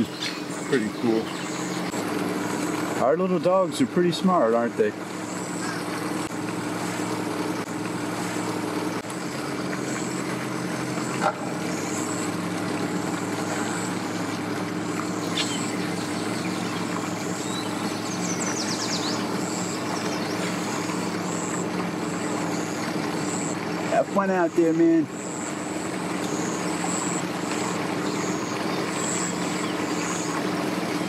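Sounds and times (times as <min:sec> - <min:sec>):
outboard engine idling: 0:00.0 - 0:31.0.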